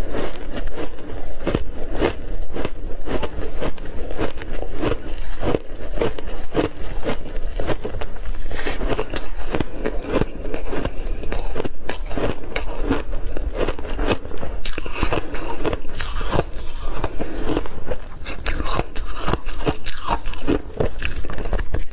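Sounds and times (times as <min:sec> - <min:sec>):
chewing ice crunches: 0:00.0 - 0:21.9.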